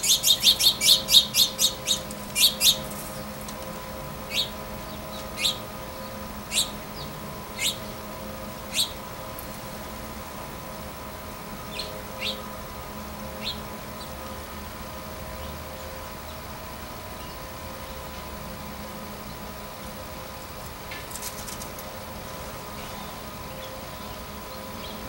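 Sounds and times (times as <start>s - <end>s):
songbird chirping: 0.0s - 10.0s, 11.5s - 14.6s, 15.2s - 25.0s.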